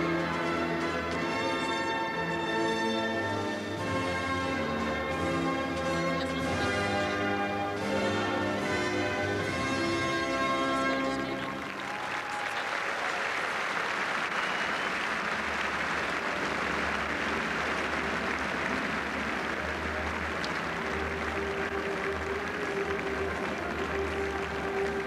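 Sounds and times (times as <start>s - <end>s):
stadium crowd applauding: 0.0s - 25.0s.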